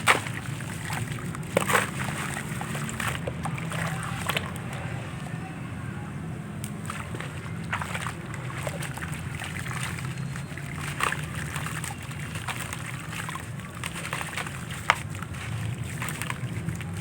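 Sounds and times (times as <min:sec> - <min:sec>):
crumble pieces crackling: 0:00.0 - 0:17.0
water sloshing: 0:00.0 - 0:17.0.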